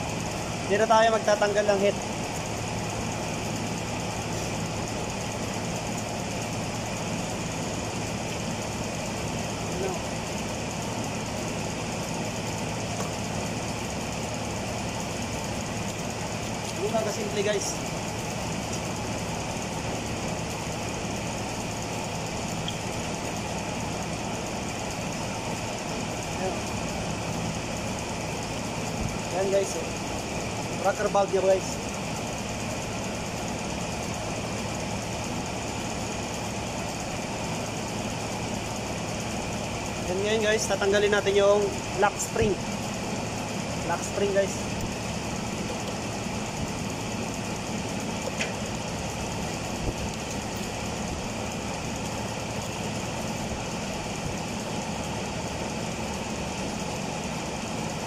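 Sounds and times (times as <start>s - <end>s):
mechanical drone with low hum: 0.0s - 58.0s.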